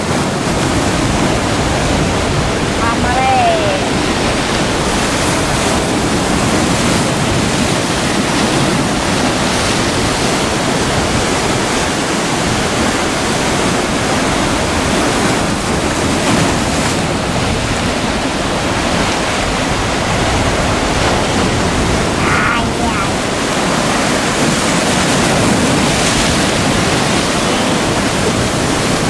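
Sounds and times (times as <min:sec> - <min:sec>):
surf breaking over rocks: 0:00.0 - 0:29.0
wind buffeting microphone: 0:00.0 - 0:29.0.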